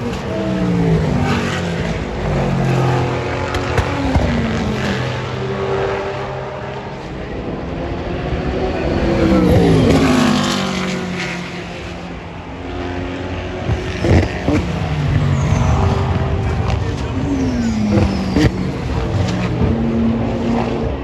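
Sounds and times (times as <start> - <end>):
race cars passing by: 0.0 - 21.0.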